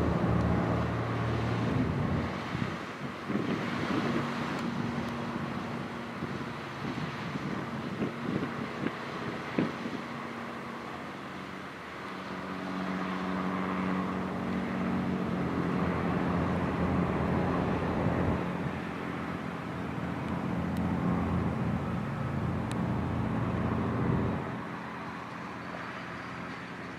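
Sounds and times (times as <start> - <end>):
motor engine drone: 0.0 - 26.9
outdoor background noise: 0.0 - 26.9.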